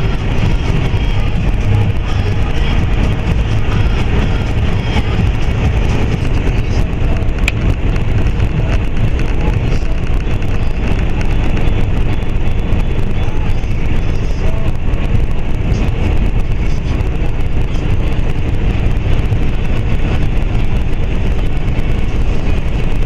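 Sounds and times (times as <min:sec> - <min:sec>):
truck engine rumble and road noise: 0:00.0 - 0:23.0.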